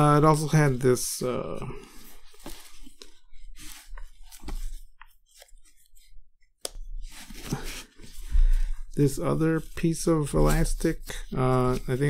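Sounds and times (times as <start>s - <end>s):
fabric rustling: 1.3s - 6.2s, 6.8s - 12.0s.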